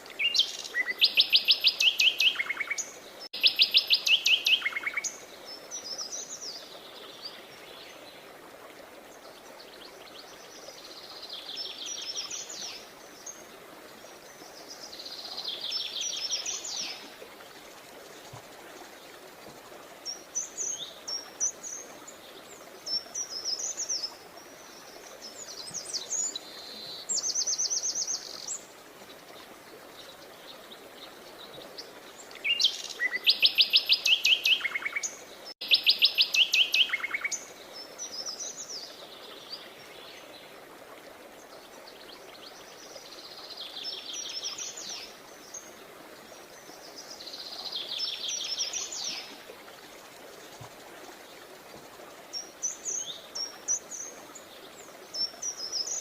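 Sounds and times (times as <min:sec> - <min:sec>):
songbirds trilling and chirping: 0:00.0 - 0:08.3, 0:09.1 - 0:56.0.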